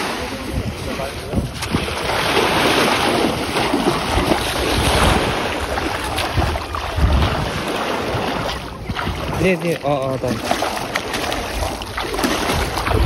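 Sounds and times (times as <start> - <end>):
small waves washing on shore: 0.0 - 13.0
water splashing from wading: 0.0 - 13.0
wind buffeting microphone: 0.0 - 13.0.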